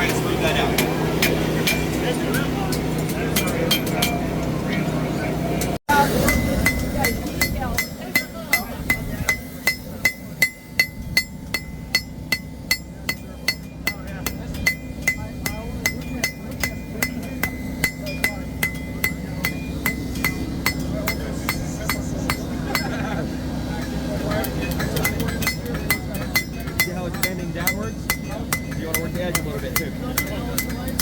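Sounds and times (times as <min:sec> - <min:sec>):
hammer striking steel on anvil: 0:00.0 - 0:04.5, 0:05.9 - 0:23.1, 0:23.7 - 0:31.0
steady low hum: 0:00.0 - 0:31.0.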